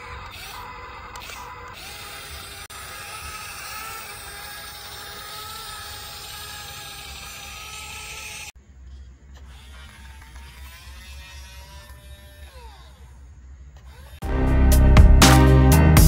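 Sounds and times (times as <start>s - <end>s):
toy excavator motors whining: 0.0s - 14.2s.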